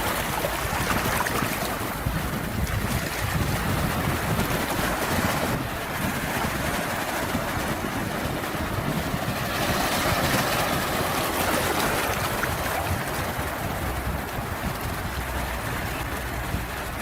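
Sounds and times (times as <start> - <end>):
ocean waves and surf washing: 0.0 - 17.0.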